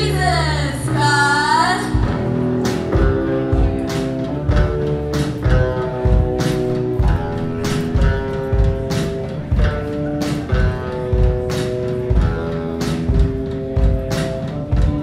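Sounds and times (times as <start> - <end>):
electric guitars sustained notes: 0.0 - 15.0
drum beat: 2.0 - 15.0.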